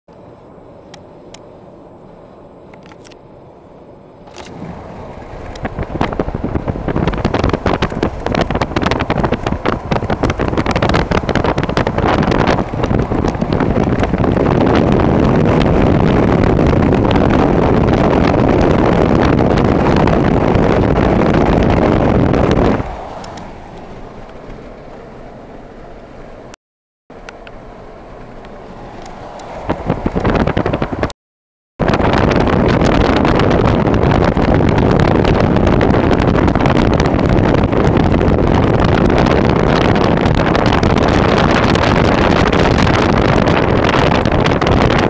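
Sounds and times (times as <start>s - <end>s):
car road noise: 0.1s - 31.2s, 31.8s - 45.0s
wind buffeting microphone: 4.3s - 25.0s, 28.7s - 31.2s, 31.8s - 45.0s.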